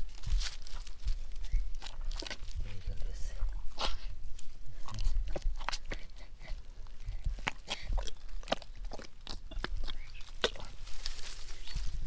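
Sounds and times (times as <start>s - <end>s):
hands squelching in mud: 0.0s - 12.0s
low steady rumble: 0.0s - 12.0s.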